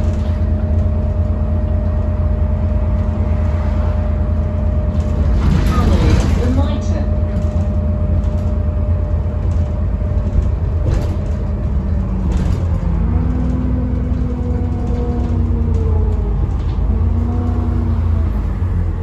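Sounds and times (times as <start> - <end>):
whine: 0.0 - 16.8
bus engine and road rumble: 0.0 - 19.0.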